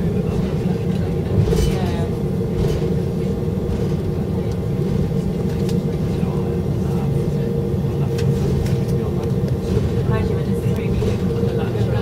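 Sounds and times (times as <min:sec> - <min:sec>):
airplane cabin rumble: 0:00.0 - 0:12.0
faint voices: 0:00.0 - 0:12.0
steady hum: 0:00.0 - 0:12.0.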